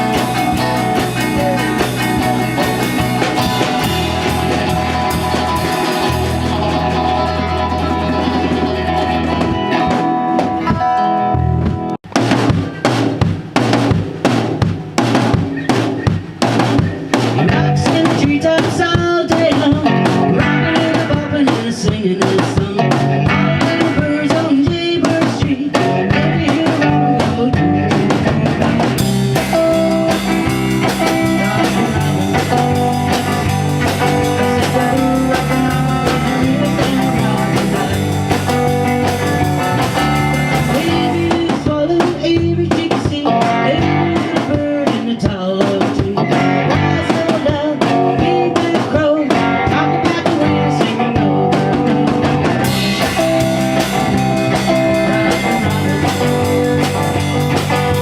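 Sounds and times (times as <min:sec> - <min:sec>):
blues-rock band playing: 0:00.0 - 0:58.0
drum kit: 0:00.0 - 0:58.0
guitar: 0:00.0 - 0:58.0.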